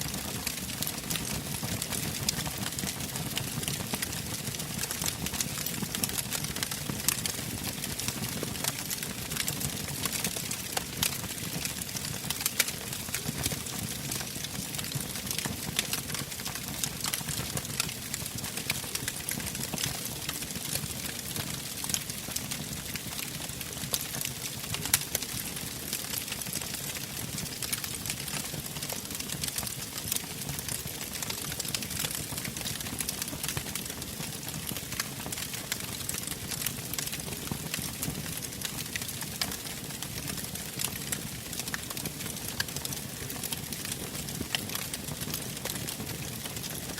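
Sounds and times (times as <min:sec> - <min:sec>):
wood fire crackling: 0:00.1 - 0:46.9.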